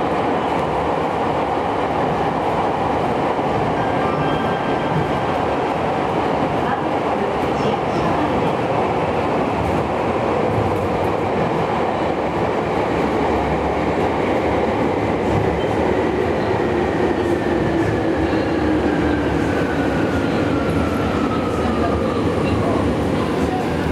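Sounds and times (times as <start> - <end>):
train wheels rumbling on track: 0.0 - 23.9.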